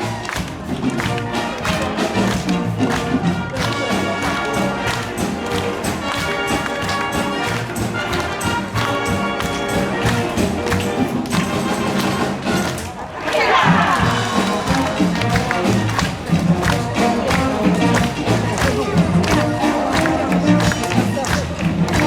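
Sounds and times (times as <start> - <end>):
steady drum beat: 0.0 - 13.0, 13.6 - 22.0
wind band playing: 0.0 - 22.0.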